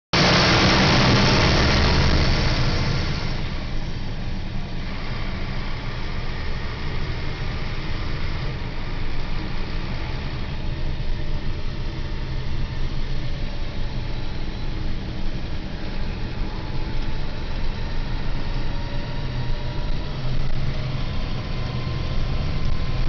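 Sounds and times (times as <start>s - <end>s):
bus diesel engine running: 0.1s - 23.0s.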